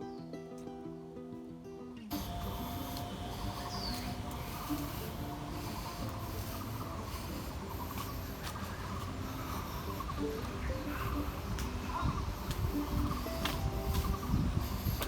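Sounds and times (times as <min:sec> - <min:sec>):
steady rushing hiss: 0:02.1 - 0:15.0.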